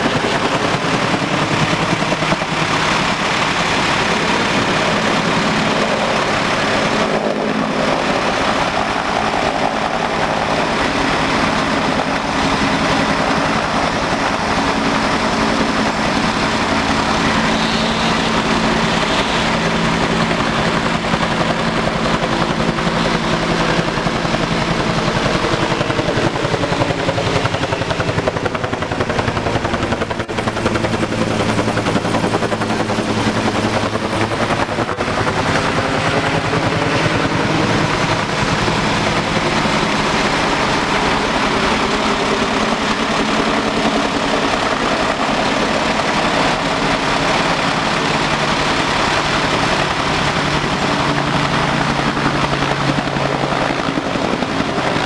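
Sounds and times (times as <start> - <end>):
helicopter rotor beating: 0.0 - 55.0
turbine whine: 0.0 - 55.0.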